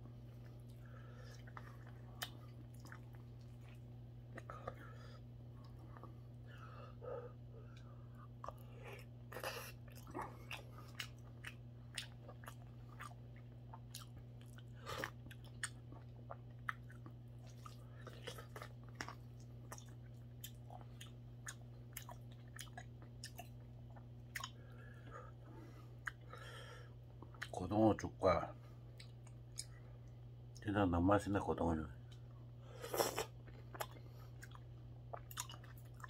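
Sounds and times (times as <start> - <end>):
person chewing: 0.2 - 27.6, 28.9 - 30.6, 32.1 - 36.0.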